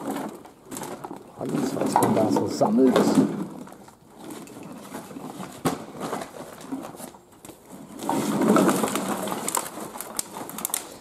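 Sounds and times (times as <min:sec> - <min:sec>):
recyclables handling noise: 0:00.0 - 0:11.0.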